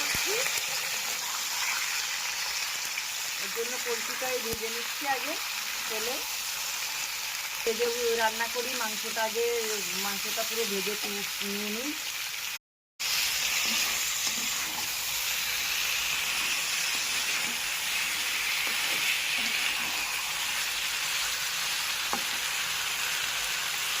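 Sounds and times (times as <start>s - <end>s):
chicken frying in hot oil: 0.0s - 24.0s.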